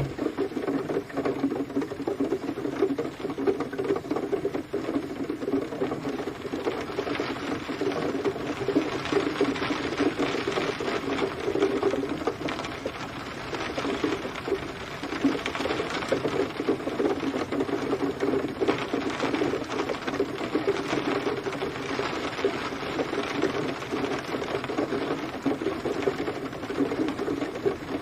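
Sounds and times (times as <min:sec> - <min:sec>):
rain on hard surface: 0:00.0 - 0:28.0.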